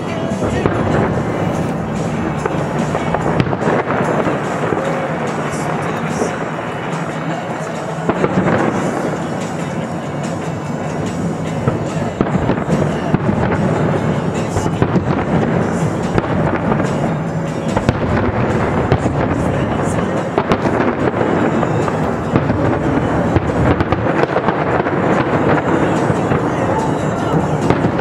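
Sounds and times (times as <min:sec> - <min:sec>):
fireworks booming and crackling: 0:00.0 - 0:28.0.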